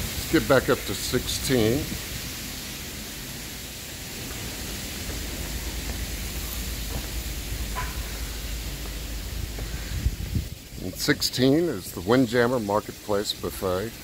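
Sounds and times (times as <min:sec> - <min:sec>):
rushing wind: 0:00.0 - 0:12.1.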